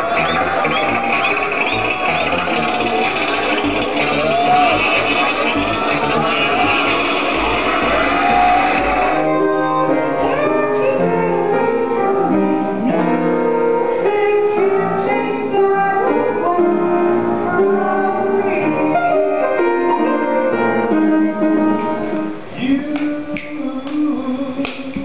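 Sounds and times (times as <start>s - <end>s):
piano melody of held notes: 0.0s - 22.6s.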